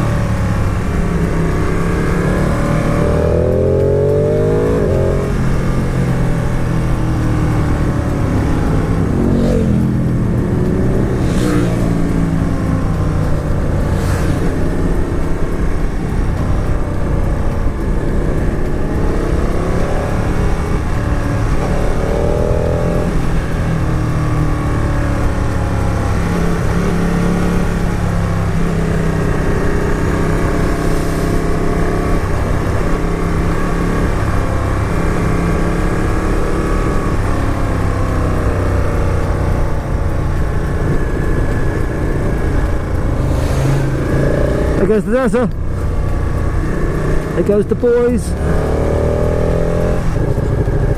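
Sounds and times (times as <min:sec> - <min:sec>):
motorcycle engine accelerating: 0:00.0 - 0:50.9
wind and road noise: 0:00.0 - 0:50.9.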